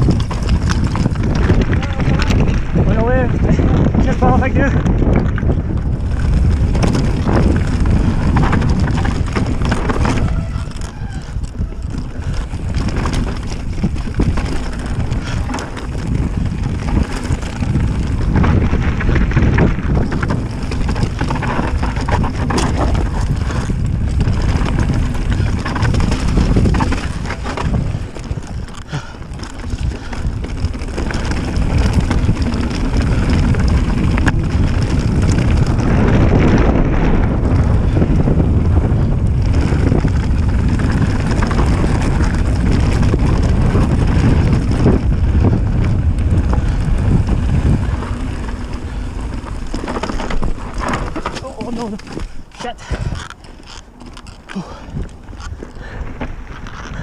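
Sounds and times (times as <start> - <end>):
tyres crunching over stones: 0.0 - 36.8, 37.5 - 57.0
bike rattling and clattering: 0.0 - 57.0
wind rushing over microphone: 0.0 - 57.0.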